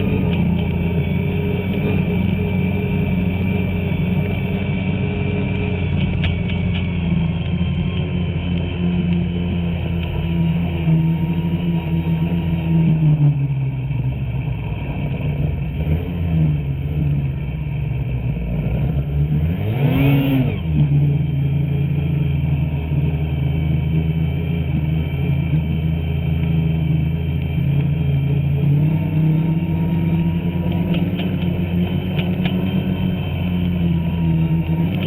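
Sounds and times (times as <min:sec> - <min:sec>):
snowmobile engine running: 0:00.0 - 0:35.0.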